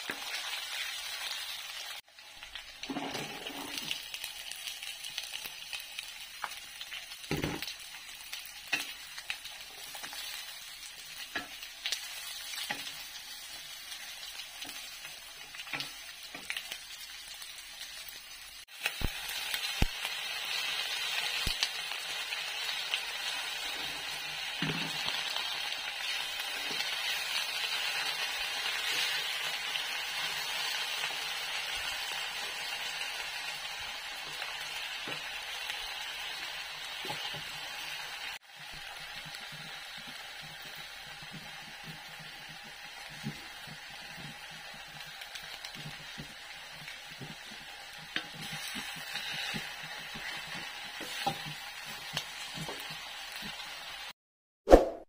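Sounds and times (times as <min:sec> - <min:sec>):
vegetables sizzling in a wok: 0:00.0 - 0:54.2.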